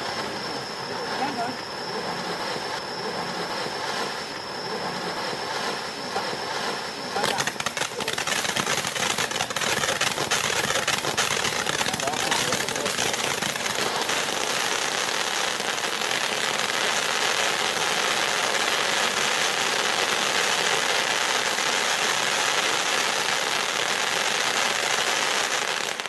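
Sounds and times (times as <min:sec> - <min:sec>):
firework fountain hissing: 0:00.0 - 0:26.0.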